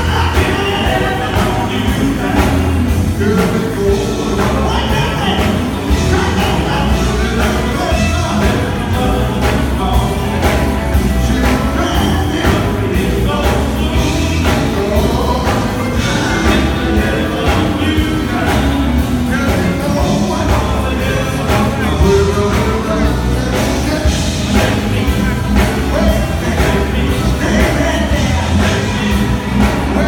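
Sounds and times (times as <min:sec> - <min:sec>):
drum kit: 0:00.0 - 0:30.0
electric guitars: 0:00.0 - 0:30.0
man singing into microphone: 0:00.0 - 0:30.0.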